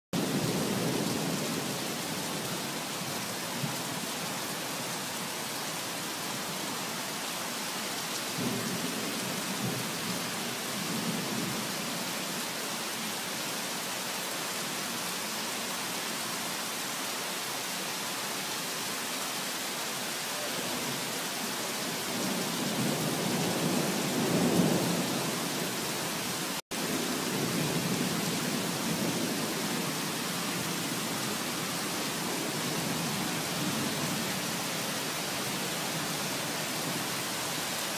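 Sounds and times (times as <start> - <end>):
heavy rain on a flooded street: 0.2 - 37.9.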